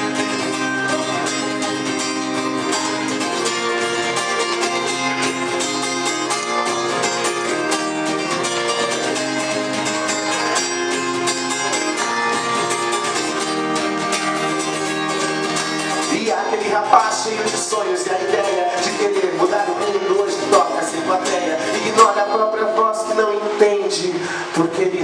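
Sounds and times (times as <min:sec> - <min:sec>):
guitar strumming: 0:00.0 - 0:25.0.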